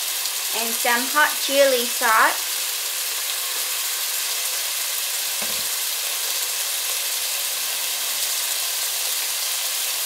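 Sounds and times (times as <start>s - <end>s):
beef frying in oil: 0.0s - 10.0s.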